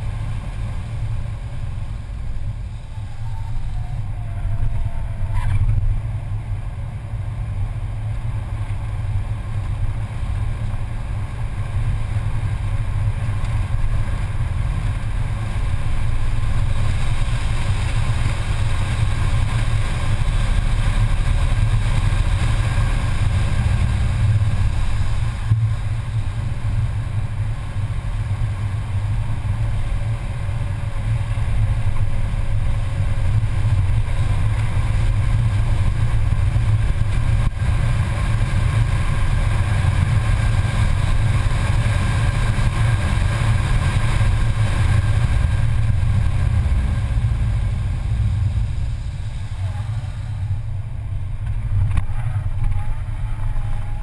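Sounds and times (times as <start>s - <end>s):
car engine drone: 0.0s - 54.0s.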